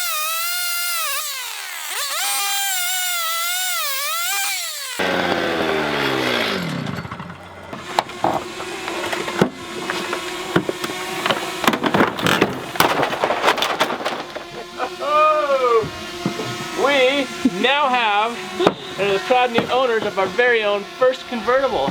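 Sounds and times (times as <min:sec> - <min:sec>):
motor spinning down: 0:00.0 - 0:13.0, 0:13.8 - 0:21.9
electric saw cutting sheet metal: 0:00.0 - 0:21.9.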